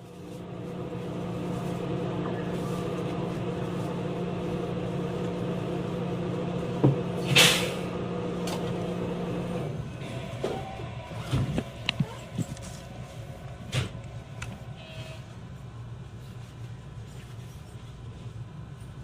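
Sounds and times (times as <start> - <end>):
train equipment hum: 0.0 - 19.0.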